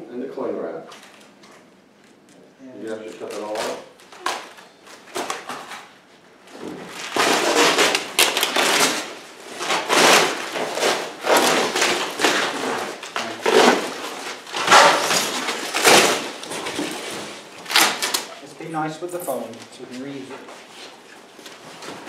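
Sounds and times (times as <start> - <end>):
plastic wrap crinkling: 2.9 - 22.0.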